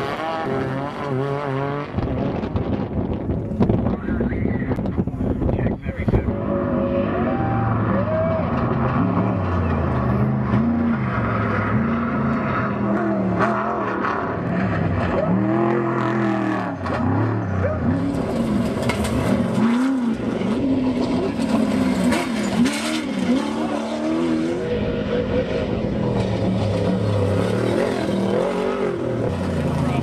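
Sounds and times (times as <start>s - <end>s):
off-road vehicle engines revving: 0.0s - 30.0s.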